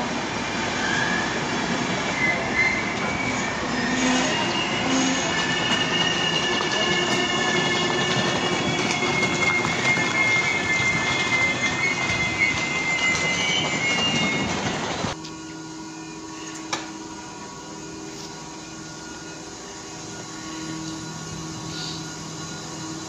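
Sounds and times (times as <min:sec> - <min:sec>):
train coaches rolling: 0:00.0 - 0:23.0
high metallic squeal: 0:00.5 - 0:23.0.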